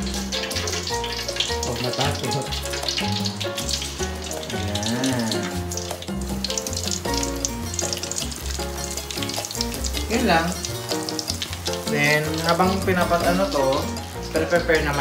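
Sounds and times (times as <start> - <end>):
background music: 0.0 - 15.0
food sizzling in frying oil: 0.0 - 15.0.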